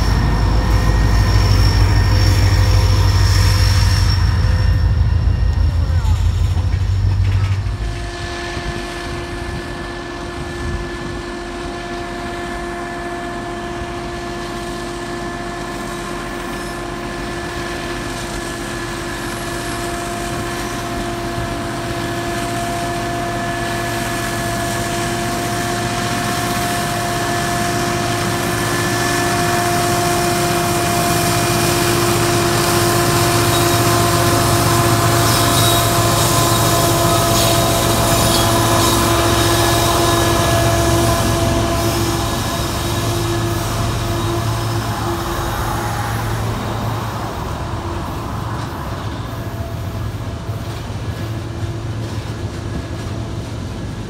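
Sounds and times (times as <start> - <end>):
train whine and rumble: 0.0 - 54.0.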